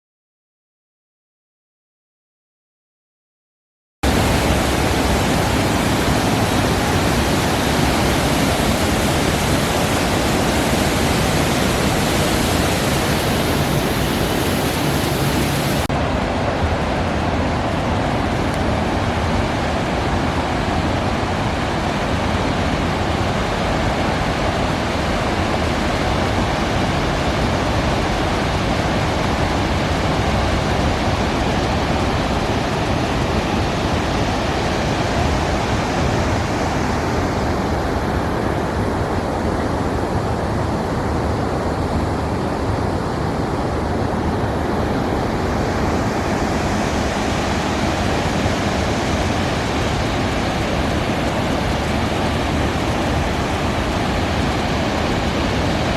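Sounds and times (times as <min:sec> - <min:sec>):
waterfall rushing: 0:04.0 - 0:55.9.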